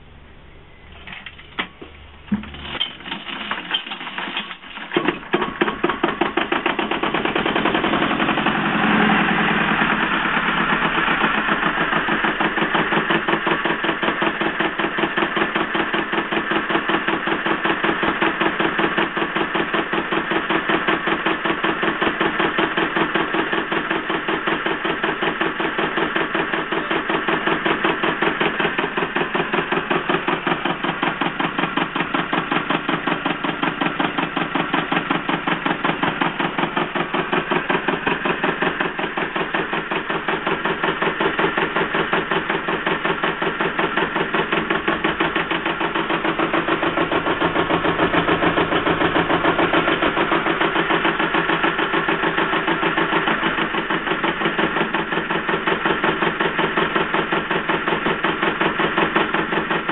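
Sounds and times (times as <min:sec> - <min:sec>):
diesel engine running steadily: 0:00.0 - 0:59.9
diesel engine turning over knocks: 0:00.8 - 0:59.9.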